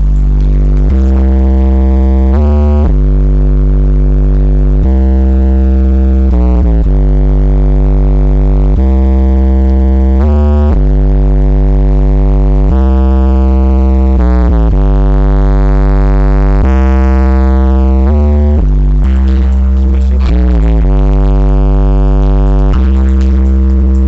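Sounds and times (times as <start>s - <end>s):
bass-heavy electronic music: 0.0s - 24.0s.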